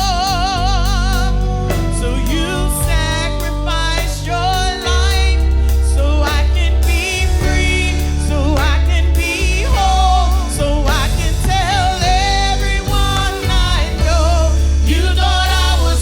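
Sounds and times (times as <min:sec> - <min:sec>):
heavy bass line: 0:00.0 - 0:16.0
lead singer with vibrato: 0:00.0 - 0:16.0
sustained organ chords: 0:00.0 - 0:16.0.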